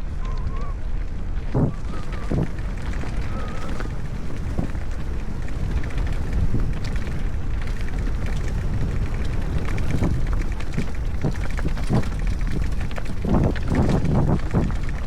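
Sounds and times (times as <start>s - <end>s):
wind buffeting microphone: 0.0s - 15.0s
bike knocks and rattles: 1.4s - 15.0s.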